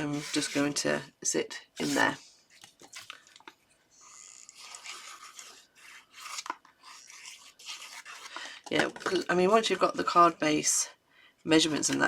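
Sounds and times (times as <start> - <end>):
paper and card rustling: 0.0 - 0.8, 1.8 - 10.4, 11.5 - 12.0.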